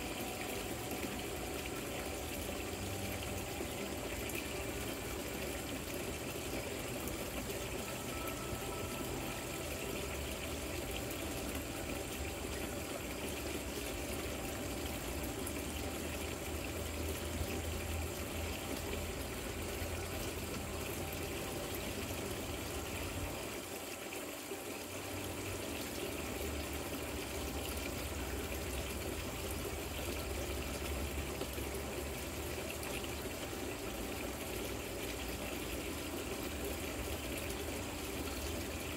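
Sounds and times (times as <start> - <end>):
fountain water trickling and splashing: 0.0 - 38.9.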